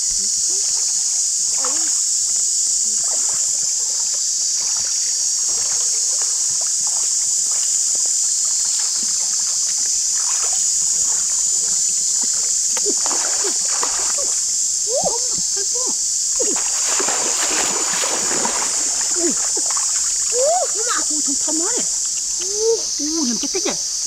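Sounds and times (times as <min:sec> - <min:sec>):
high-pitched insect drone: 0:00.0 - 0:24.0
river water splashing: 0:01.4 - 0:24.0.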